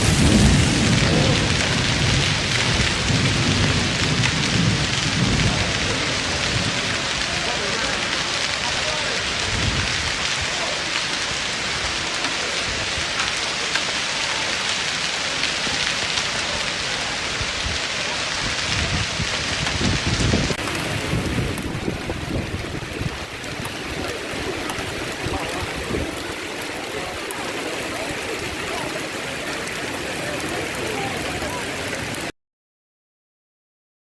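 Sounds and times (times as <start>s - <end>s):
heavy rain pouring: 0.0s - 32.3s.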